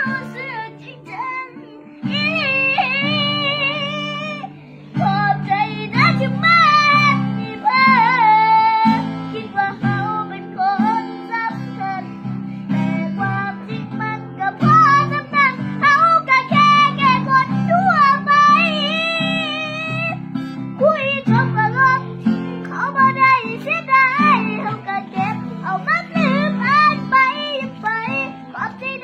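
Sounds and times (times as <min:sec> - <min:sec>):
acoustic guitar chords: 0:00.0 - 0:29.0
person singing: 0:00.0 - 0:29.0.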